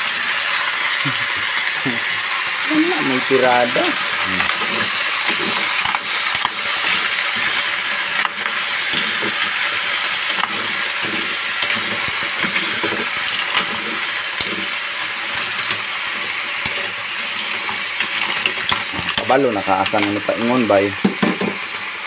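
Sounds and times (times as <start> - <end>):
hiss of steam: 0.0 - 18.0.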